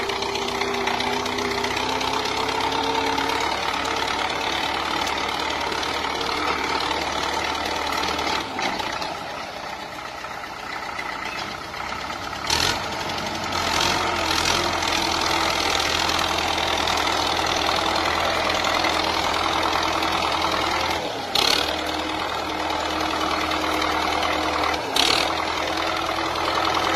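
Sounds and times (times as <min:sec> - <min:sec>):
old tractor engine running: 0:00.0 - 0:26.9.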